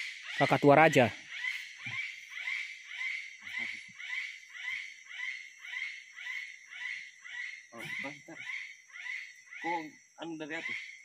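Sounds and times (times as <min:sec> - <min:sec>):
animal rhythmic call: 0:00.0 - 0:11.0.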